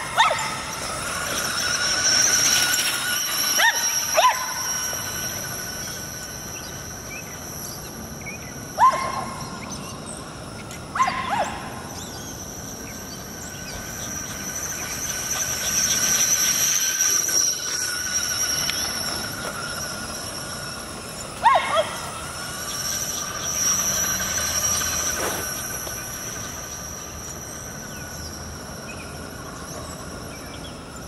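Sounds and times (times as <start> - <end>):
toy truck motor whining: 0.0 - 11.0, 11.6 - 31.0.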